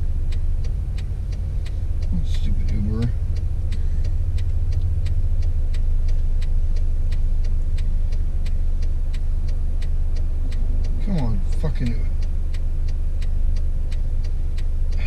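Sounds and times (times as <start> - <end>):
car engine idling: 0.0 - 15.0
indicator relay ticking: 0.0 - 15.0.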